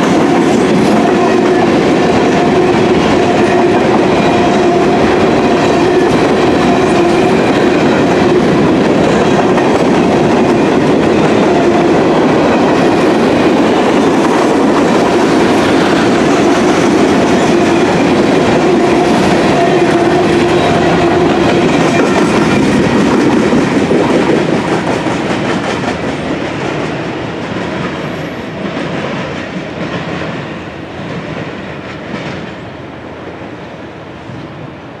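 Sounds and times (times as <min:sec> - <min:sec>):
train wheels clattering on track: 0:00.0 - 0:33.5.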